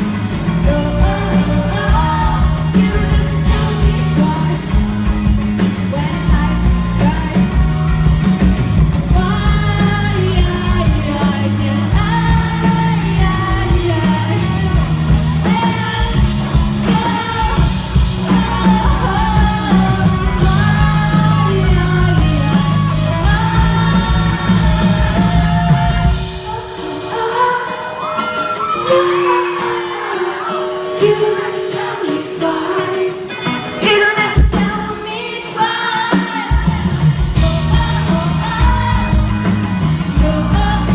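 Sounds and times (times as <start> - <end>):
person singing: 0.0 - 40.9
pop-rock band playing live: 0.0 - 40.9.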